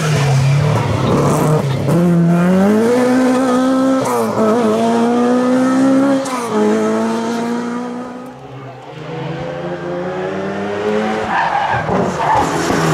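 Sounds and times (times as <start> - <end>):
rally car engine revving: 0.0 - 12.9.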